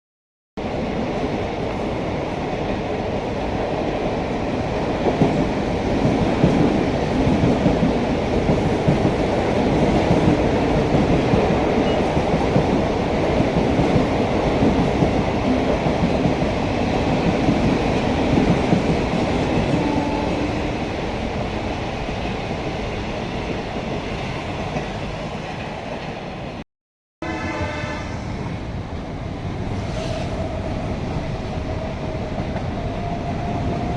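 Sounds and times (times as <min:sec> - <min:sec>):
electric train rumbling past: 0:00.6 - 0:26.6, 0:27.2 - 0:33.9.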